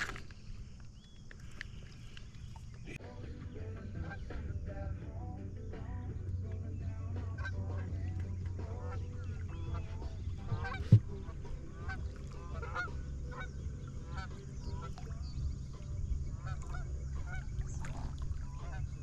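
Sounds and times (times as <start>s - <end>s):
birds calling: 0.0s - 19.0s
low hum: 0.0s - 19.0s.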